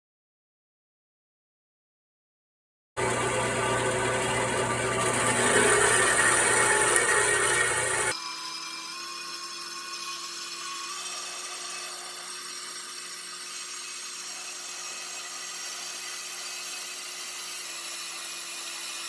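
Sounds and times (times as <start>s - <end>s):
power tool whining: 3.0s - 19.0s.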